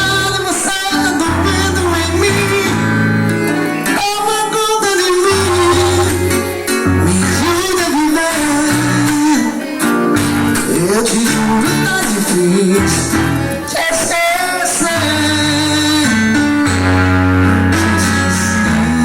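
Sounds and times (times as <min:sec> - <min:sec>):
person singing: 0:00.0 - 0:19.0
plucked guitar: 0:00.0 - 0:19.0
steady bass line: 0:00.0 - 0:19.0.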